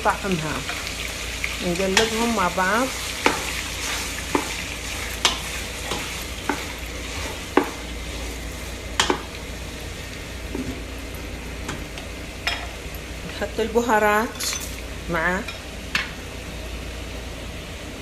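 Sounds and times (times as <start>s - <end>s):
chicken and onions sizzling in oil: 0.0s - 18.0s.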